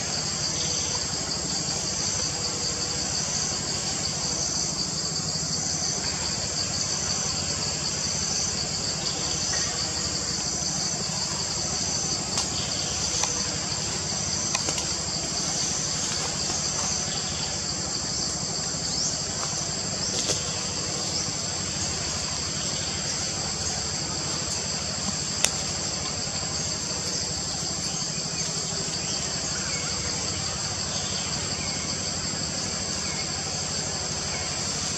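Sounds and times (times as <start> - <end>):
insect chorus buzzing: 0.0 - 34.9
low steady rumble: 0.0 - 34.9.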